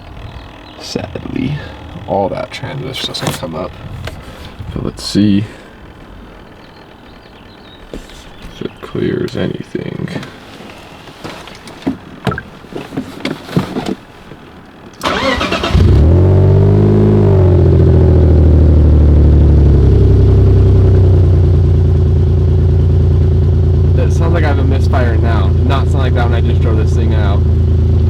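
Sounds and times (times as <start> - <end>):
car engine starting and idling: 0.0 - 28.0.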